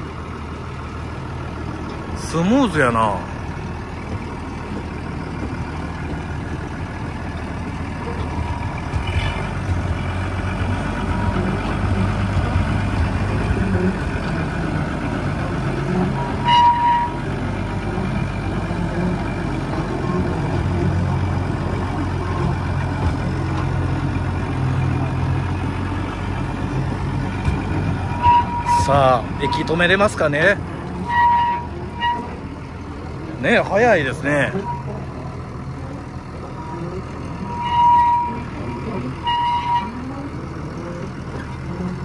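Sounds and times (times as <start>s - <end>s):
diesel locomotive engine running: 0.0s - 42.0s.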